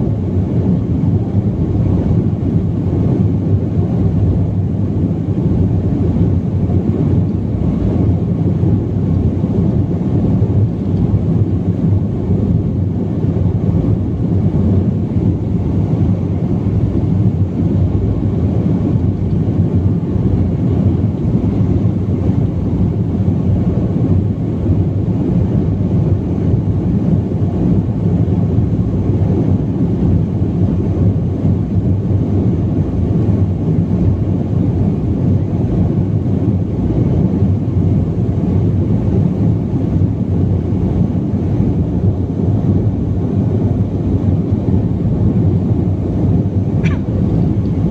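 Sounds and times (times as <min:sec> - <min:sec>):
jet cabin low rumble: 0:00.0 - 0:47.9.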